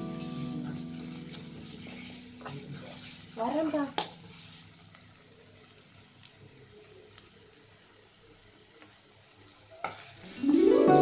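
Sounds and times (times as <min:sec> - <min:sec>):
faint sizzling in a pan: 0:00.0 - 0:11.0.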